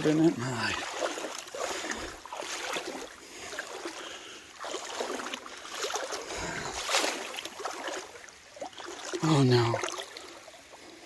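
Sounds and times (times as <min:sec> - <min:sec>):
water sloshing around wading legs: 0:00.0 - 0:11.0.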